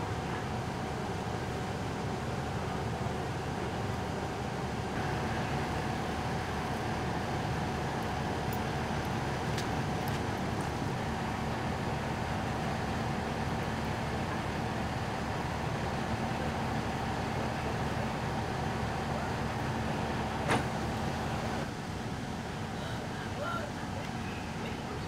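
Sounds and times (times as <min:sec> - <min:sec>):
fire engine rumbling with whine: 0:00.0 - 0:25.0.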